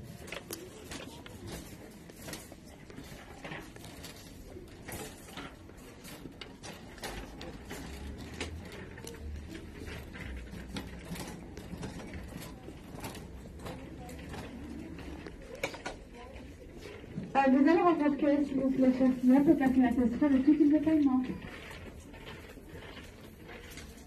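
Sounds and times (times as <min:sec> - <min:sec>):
shopping cart rattling: 0:00.0 - 0:24.0.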